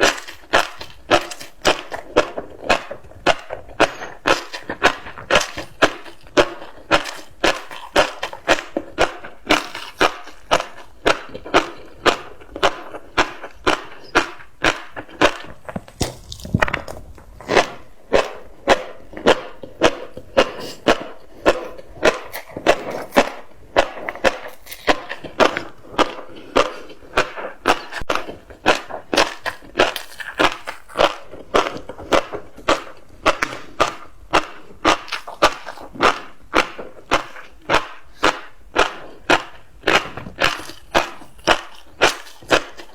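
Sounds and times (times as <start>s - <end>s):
fish roe crunching when chewed: 0.0s - 42.9s.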